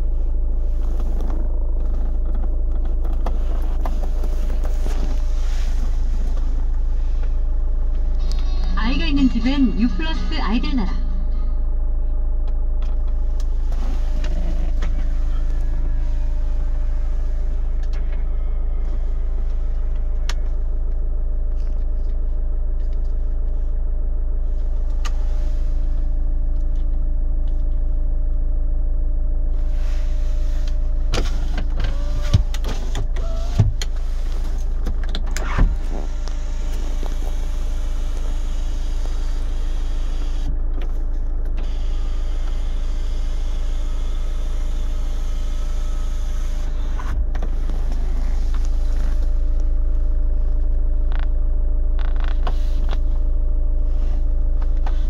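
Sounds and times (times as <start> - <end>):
car engine idling drone: 0.0 - 55.0.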